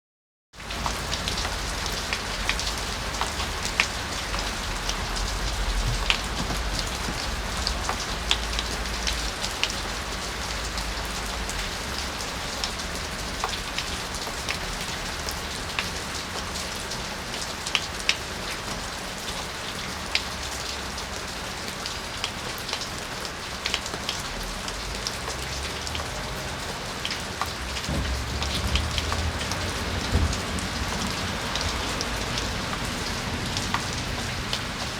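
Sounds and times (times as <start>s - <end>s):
raindrops striking sharply: 0.6s - 20.8s, 21.4s - 34.9s
steady rain hiss: 0.6s - 34.9s.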